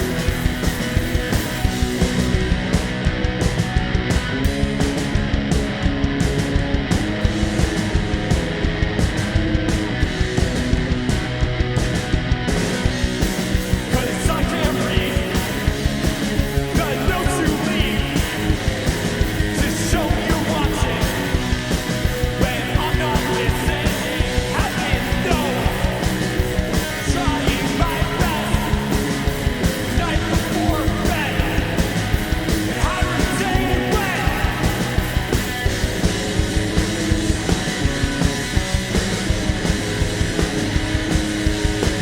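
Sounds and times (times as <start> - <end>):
electric guitar: 0.0 - 42.0
steady drum beat: 0.0 - 42.0.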